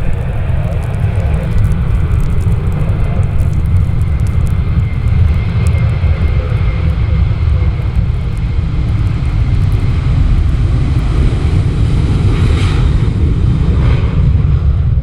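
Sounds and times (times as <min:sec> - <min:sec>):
high engine whine: 0:00.0 - 0:15.0
jet engines rumbling: 0:00.0 - 0:15.0.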